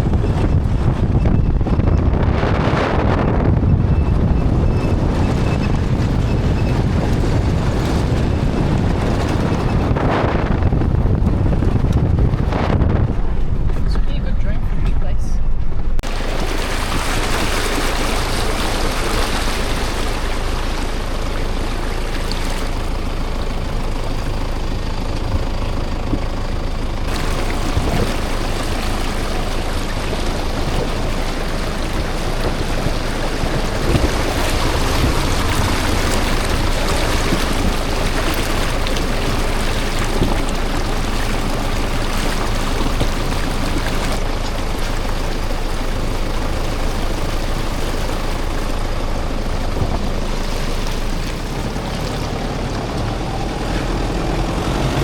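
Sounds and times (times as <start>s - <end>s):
road noise: 0.0s - 55.0s
vehicle engine: 0.0s - 55.0s.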